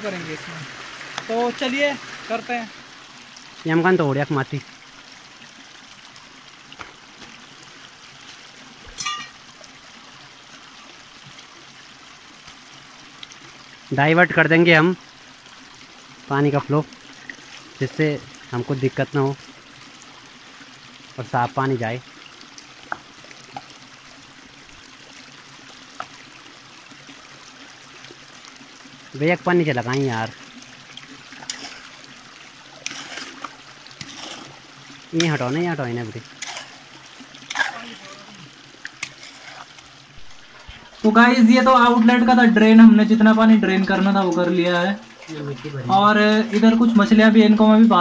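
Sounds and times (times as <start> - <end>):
stream running over stones: 0.0 - 48.0
water splashes: 0.0 - 48.0.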